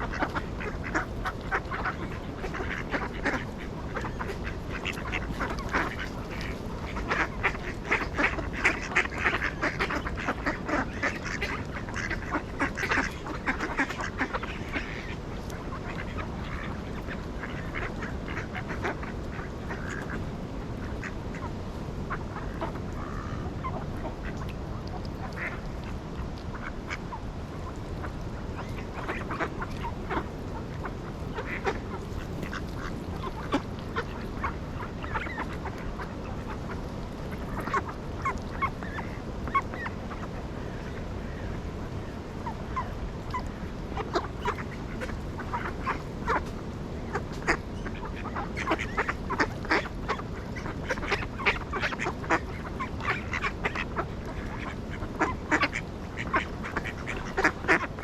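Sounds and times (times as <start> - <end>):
ducks quacking: 0.0 - 20.2, 20.8 - 58.0
low background noise: 0.0 - 58.0.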